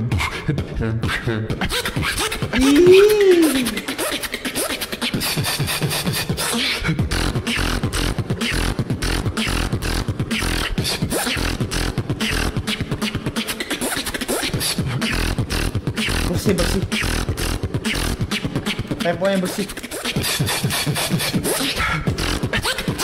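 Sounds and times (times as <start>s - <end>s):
person beatboxing: 0.0s - 23.0s.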